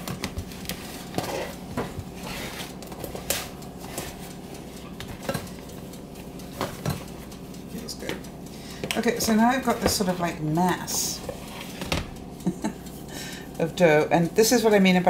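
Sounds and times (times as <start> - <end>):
hands kneading dough: 0.0 - 13.1.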